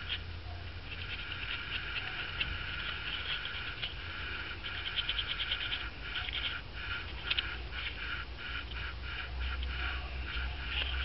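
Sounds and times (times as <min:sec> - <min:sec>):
low steady hum: 0:00.0 - 0:11.0
paintbrush scrubbing over foam: 0:00.8 - 0:11.0.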